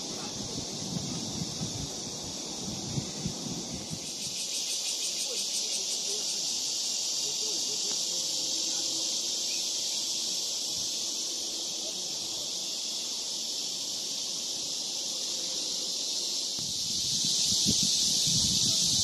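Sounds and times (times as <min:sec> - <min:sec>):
insects buzzing shrilly: 0:00.0 - 0:19.0.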